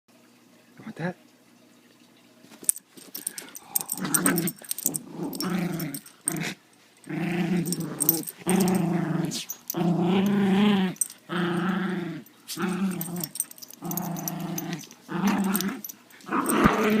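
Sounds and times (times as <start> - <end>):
puppy growling: 3.1 - 17.0.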